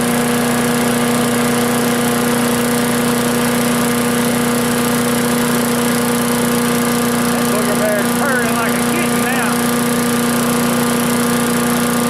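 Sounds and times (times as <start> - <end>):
wood chipper engine running: 0.0 - 12.0.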